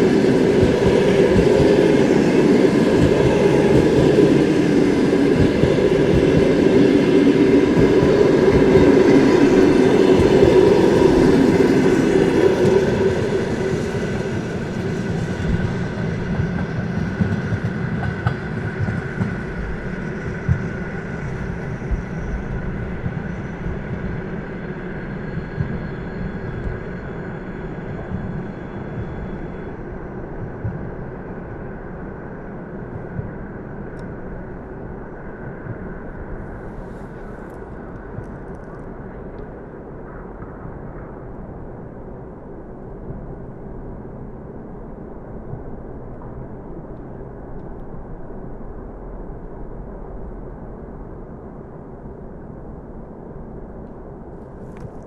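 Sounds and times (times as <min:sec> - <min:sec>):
train rumbling on rails: 0:00.0 - 0:52.6.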